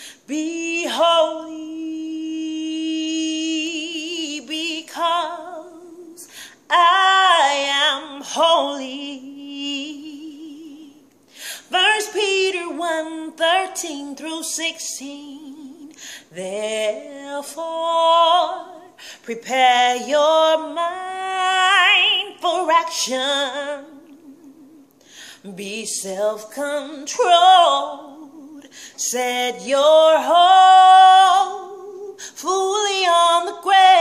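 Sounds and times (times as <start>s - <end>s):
woman singing with vibrato: 0.0s - 34.0s.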